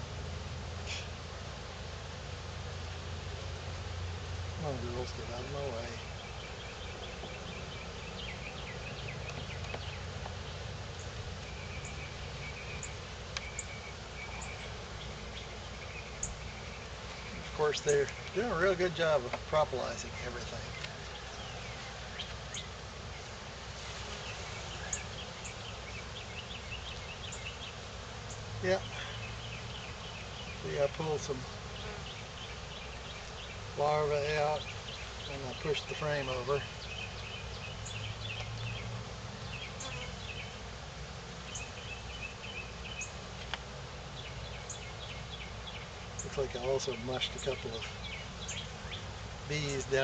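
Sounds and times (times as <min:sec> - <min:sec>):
bees buzzing: 0:00.0 - 0:50.0
honeybees humming: 0:00.0 - 0:50.0
small birds chirping: 0:04.2 - 0:40.8, 0:41.4 - 0:50.0.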